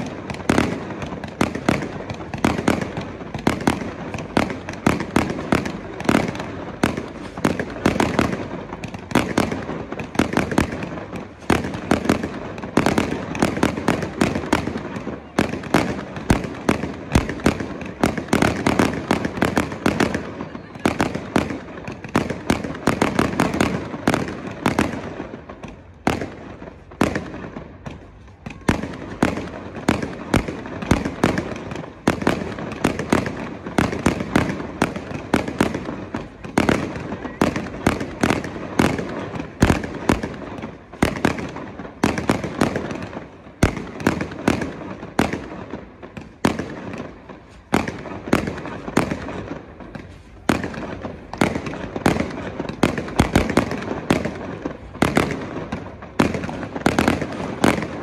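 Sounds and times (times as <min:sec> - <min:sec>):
fireworks bursting with bangs: 0:00.0 - 0:58.0
fireworks crackling: 0:00.0 - 0:58.0.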